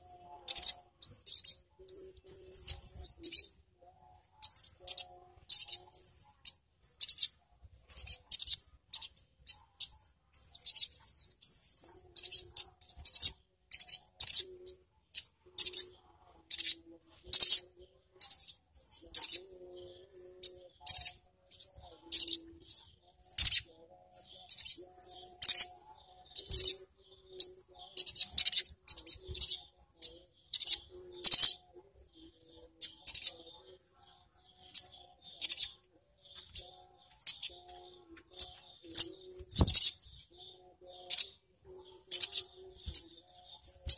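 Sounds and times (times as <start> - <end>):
bird chittering: 0.0 - 3.6, 4.3 - 31.7, 32.6 - 43.9.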